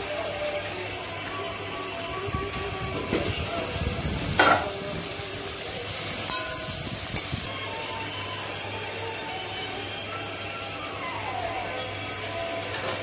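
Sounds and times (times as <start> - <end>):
potatoes and onions frying in oil: 0.0 - 13.0.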